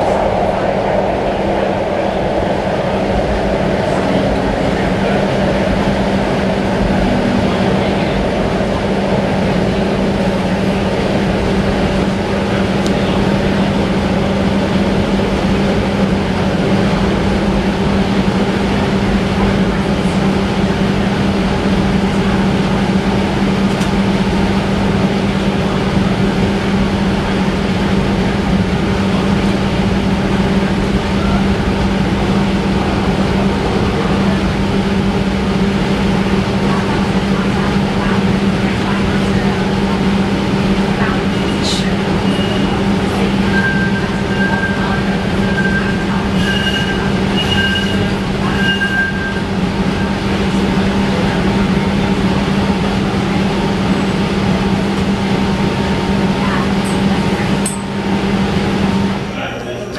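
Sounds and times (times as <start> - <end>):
streetcar interior hum and rumble: 0.0 - 59.9.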